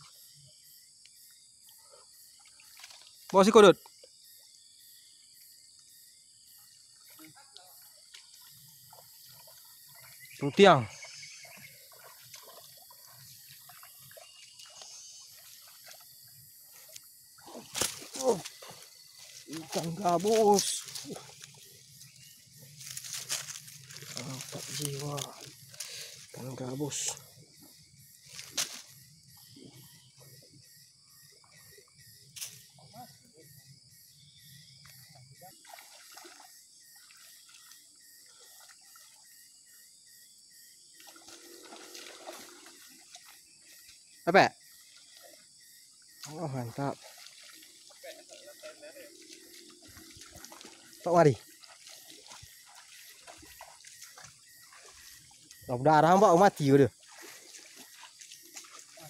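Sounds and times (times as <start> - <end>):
wading through shallow water: 0.0 - 59.0.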